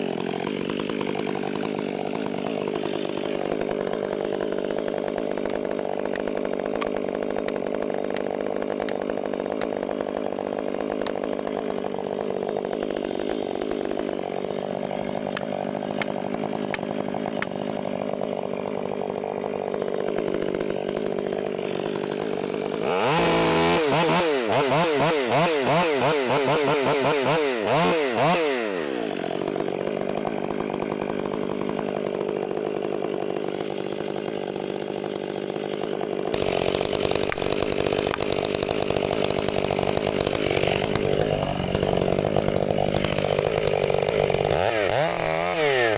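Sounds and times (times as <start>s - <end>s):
chainsaw running: 0.0s - 45.9s.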